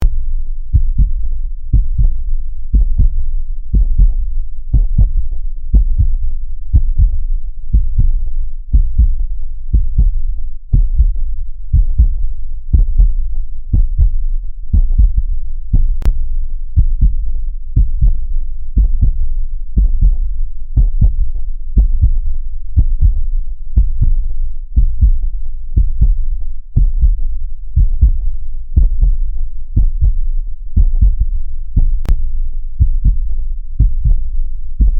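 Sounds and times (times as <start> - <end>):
muffled heartbeat: 0.0 - 34.9.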